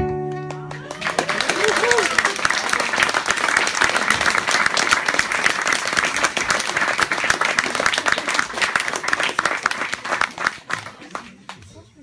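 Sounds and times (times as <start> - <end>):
audience applauding: 0.3 - 11.6.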